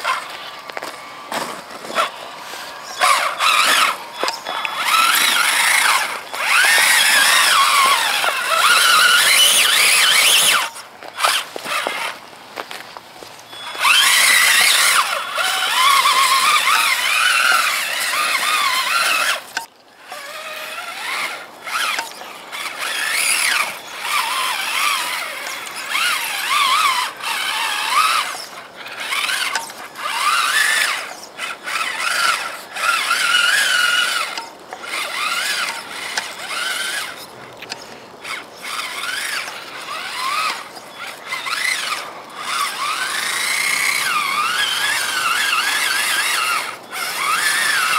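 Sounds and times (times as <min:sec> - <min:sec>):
toy truck electric motor whining: 0:00.0 - 0:47.9.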